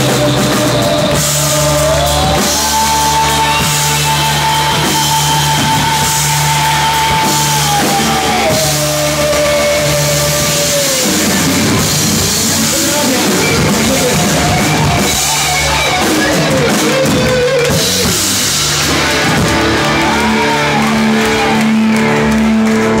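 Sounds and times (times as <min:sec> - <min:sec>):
drum kit pounding: 0:00.0 - 0:23.0
electric guitar: 0:00.0 - 0:23.0
live rock band: 0:00.0 - 0:23.0.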